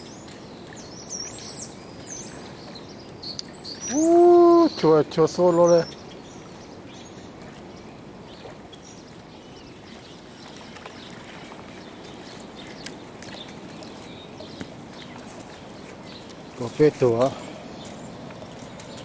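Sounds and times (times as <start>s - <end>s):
river water lapping on bank: 0.0s - 19.0s.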